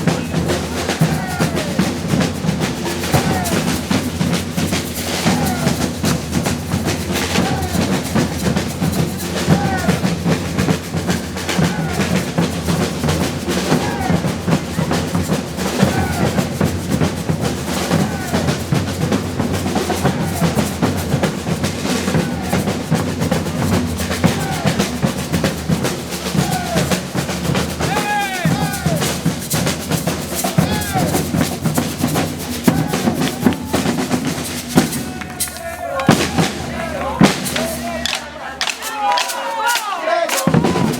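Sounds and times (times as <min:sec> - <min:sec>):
bass drums: 0:00.0 - 0:39.1
snare drums with rolls: 0:00.0 - 0:40.9.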